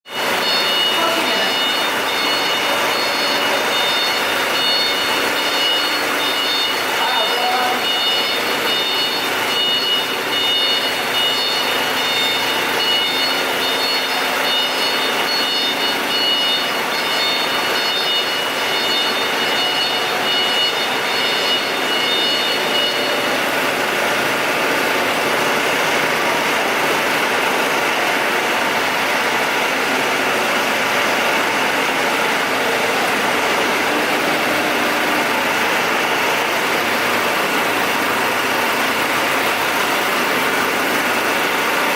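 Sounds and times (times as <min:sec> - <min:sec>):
diesel generator engine running: 0:00.1 - 0:41.9.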